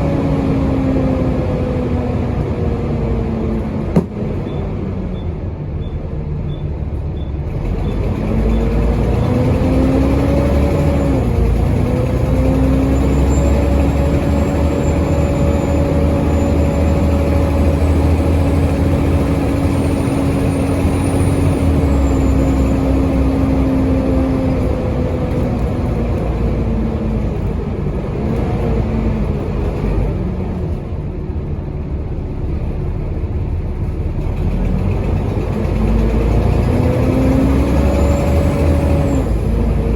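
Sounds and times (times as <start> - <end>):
diesel bus engine pulling away: 0.0 - 39.9.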